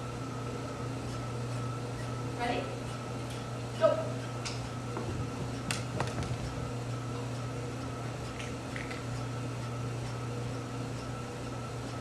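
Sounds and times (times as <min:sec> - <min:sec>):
fan humming: 0:00.0 - 0:12.0.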